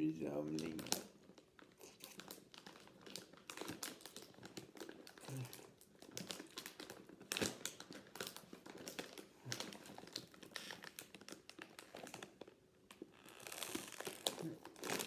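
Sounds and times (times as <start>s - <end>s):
snack bag crinkling: 0.5s - 15.0s.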